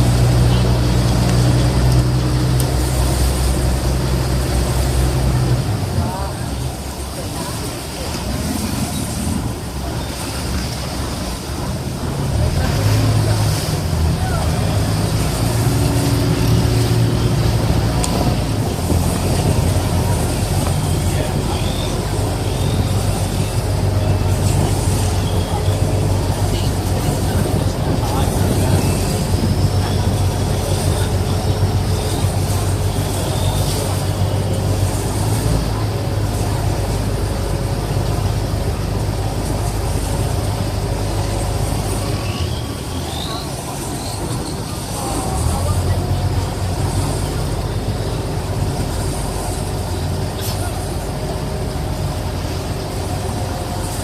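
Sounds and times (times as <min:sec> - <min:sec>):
ferry engine droning: 0:00.0 - 0:54.0
water noise: 0:00.0 - 0:54.0
wind: 0:00.0 - 0:54.0.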